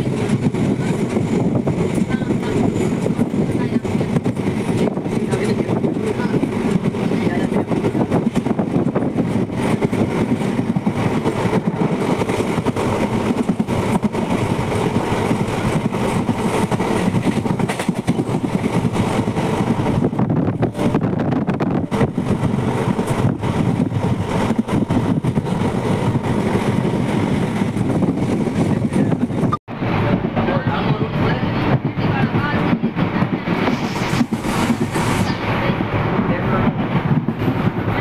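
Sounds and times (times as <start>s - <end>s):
train wheels on track: 0.0s - 38.0s.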